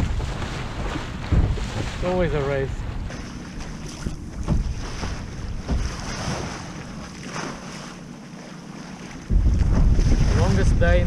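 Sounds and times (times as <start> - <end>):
wind buffeting microphone: 0.0 - 8.1, 9.0 - 11.0
water hissing along hull: 0.0 - 11.0.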